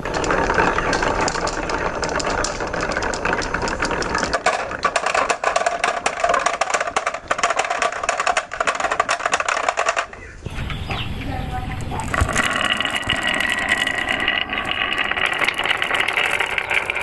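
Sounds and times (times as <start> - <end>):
marbles rattling down wooden run: 0.0 - 10.3, 11.5 - 17.0.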